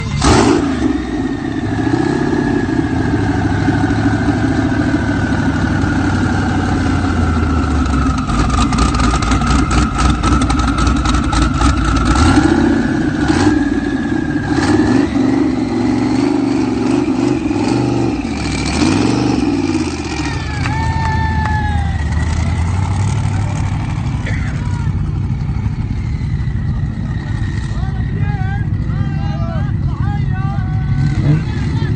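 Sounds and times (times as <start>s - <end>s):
engine rumbling: 0.0s - 31.9s
rapid exhaust crackles: 0.0s - 31.9s.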